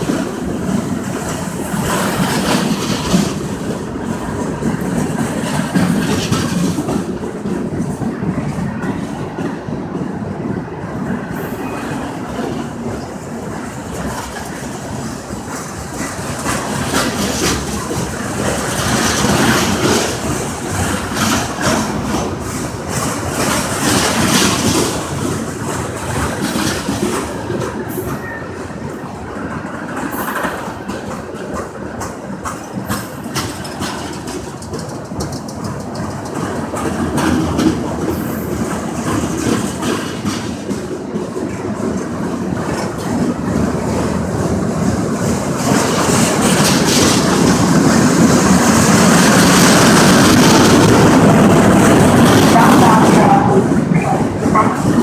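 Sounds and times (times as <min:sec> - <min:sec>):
wheels clicking over track: 0:00.0 - 0:10.2, 0:11.0 - 0:55.0
steel wheels rumbling on rail: 0:00.0 - 0:55.0.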